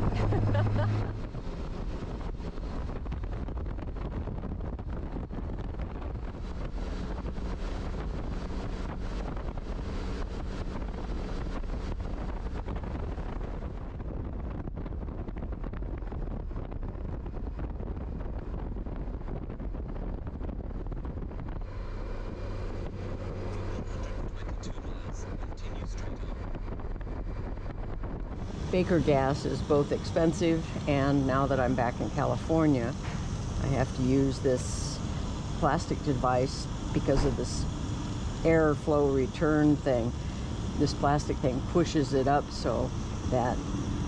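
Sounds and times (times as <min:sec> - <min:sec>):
motorcycle engine drone: 0:00.0 - 0:44.0
wind rushing over microphone: 0:00.0 - 0:44.0.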